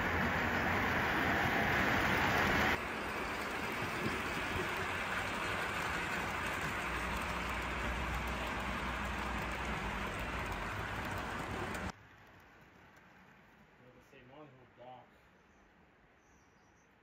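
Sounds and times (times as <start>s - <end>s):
model trains rattling on track: 0.0s - 14.7s.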